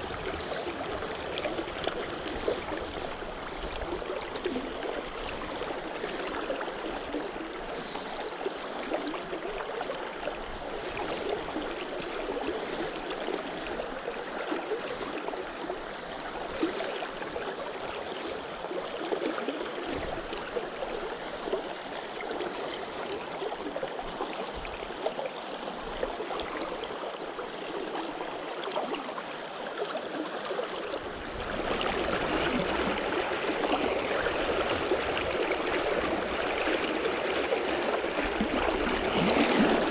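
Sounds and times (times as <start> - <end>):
river water rippling over stones: 0.0 - 39.9.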